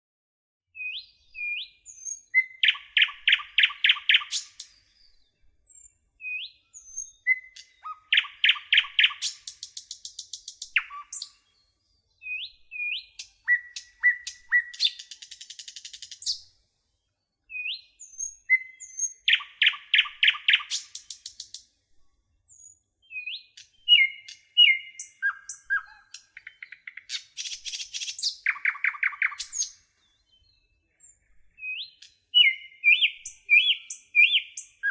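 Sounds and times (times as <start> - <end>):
nightingale singing: 0.8 - 16.5, 17.4 - 21.7, 22.5 - 34.9.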